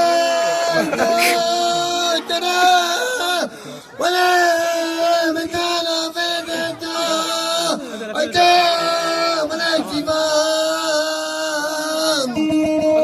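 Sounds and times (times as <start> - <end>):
man singing folk song: 0.0 - 13.0.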